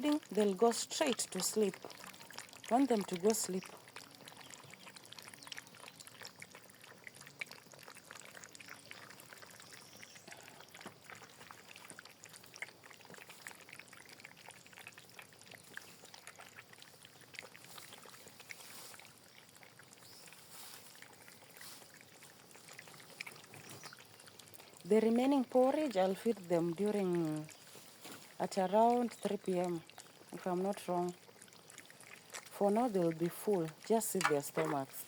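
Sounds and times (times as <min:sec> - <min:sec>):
puppies lapping and slurping: 0:00.0 - 0:35.0.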